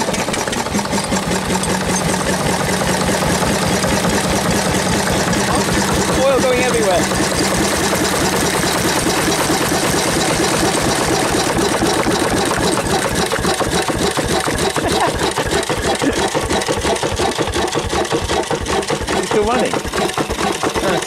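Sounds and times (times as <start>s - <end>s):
stationary diesel engine running: 0.0s - 21.0s.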